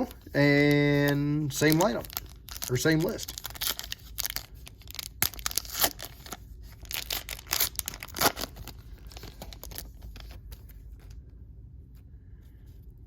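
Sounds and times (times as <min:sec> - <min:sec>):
wrapper being torn and crinkled: 0:00.0 - 0:10.6.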